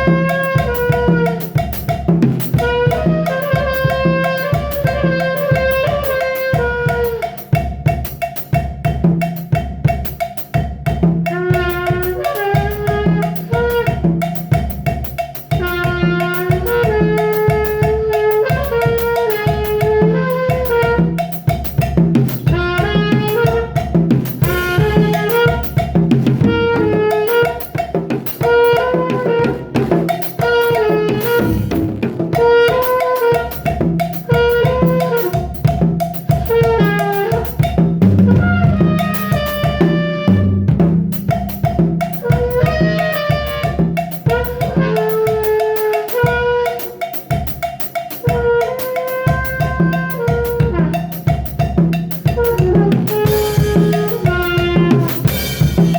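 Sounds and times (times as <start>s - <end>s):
saxophone-like melody: 0.0s - 7.8s, 11.3s - 14.6s, 15.4s - 41.3s, 42.1s - 51.6s, 52.2s - 55.9s
drum kit beat: 0.0s - 55.9s.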